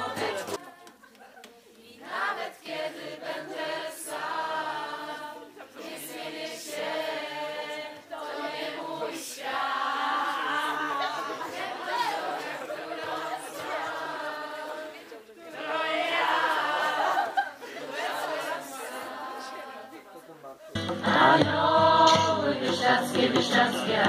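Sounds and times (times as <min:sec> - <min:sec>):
group of people singing: 0:00.0 - 0:20.2, 0:20.8 - 0:24.0.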